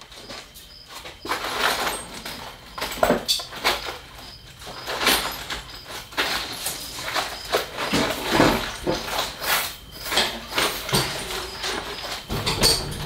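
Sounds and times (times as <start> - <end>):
parts and tools rummaged: 0.0 - 13.0.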